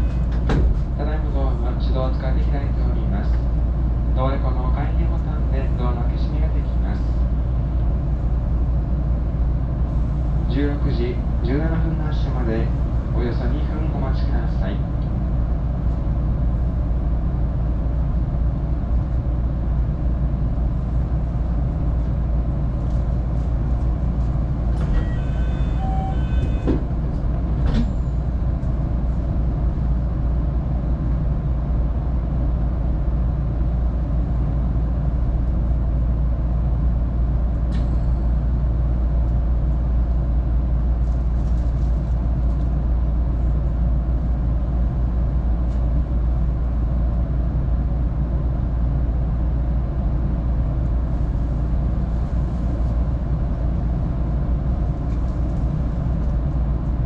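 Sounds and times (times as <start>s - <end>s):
train low rumble: 0.0s - 57.0s.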